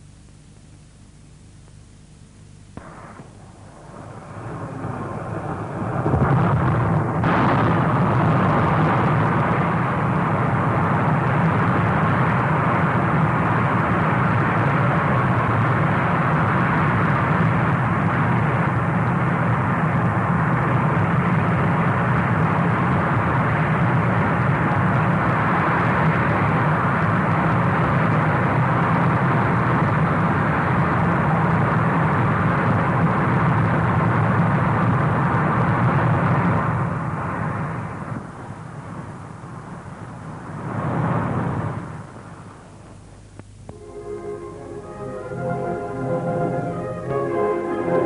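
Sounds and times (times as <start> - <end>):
rocket engine roaring: 2.8 - 42.4, 43.7 - 48.0.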